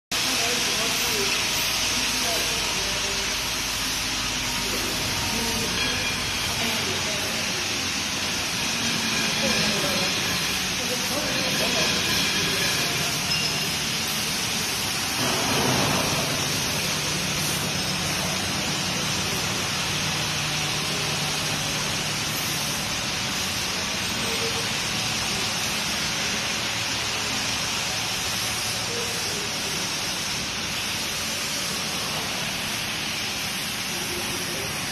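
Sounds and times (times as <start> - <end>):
motor or pump hum: 0.1 - 34.9
water spray rushing: 0.2 - 34.9.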